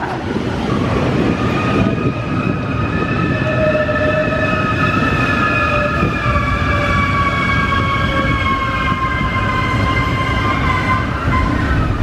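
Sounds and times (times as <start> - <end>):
high train whine: 0.0 - 12.0
train rolling rumble: 0.0 - 12.0.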